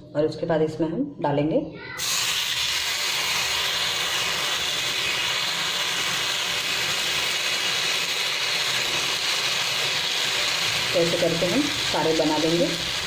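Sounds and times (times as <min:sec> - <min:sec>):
batter sizzling in hot oil: 0:02.0 - 0:13.0.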